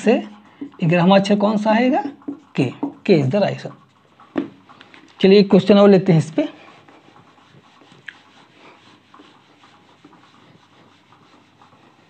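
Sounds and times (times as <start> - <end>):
duster rubbing whiteboard: 0.0 - 12.0.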